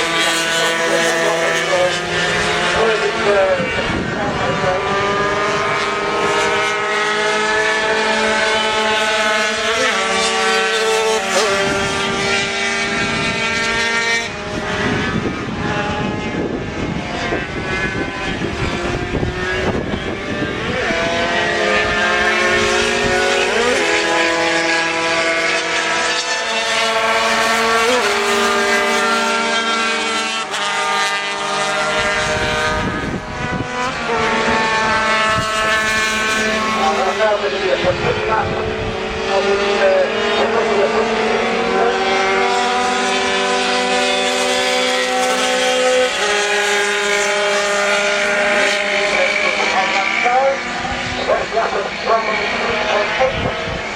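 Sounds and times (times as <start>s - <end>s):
racing motorcycles passing: 0.0s - 53.9s.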